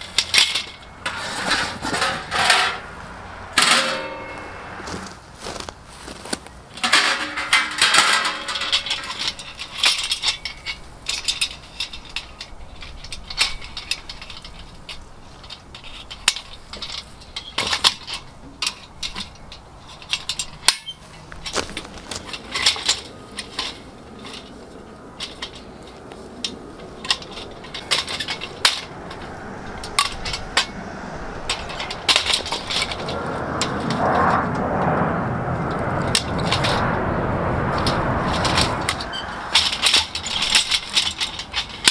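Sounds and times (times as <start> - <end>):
metal frame clinking: 0.0 - 5.6, 6.8 - 34.0, 37.7 - 41.9
rustling scraping of handling: 0.0 - 41.9.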